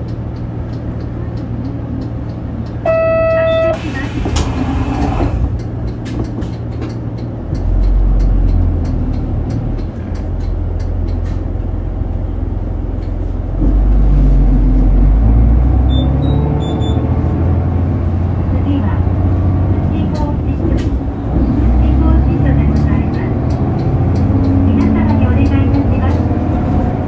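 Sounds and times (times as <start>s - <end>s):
bus diesel engine drone: 0.0s - 27.0s.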